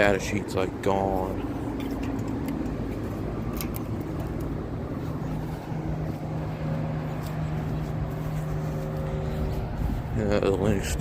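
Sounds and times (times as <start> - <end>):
air conditioning units humming: 0.0 - 11.0.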